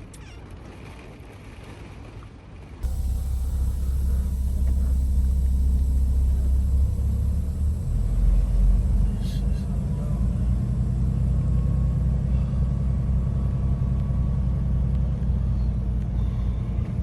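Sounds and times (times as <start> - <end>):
road noise inside cab: 2.8 - 17.0
truck engine rumble: 2.8 - 17.0.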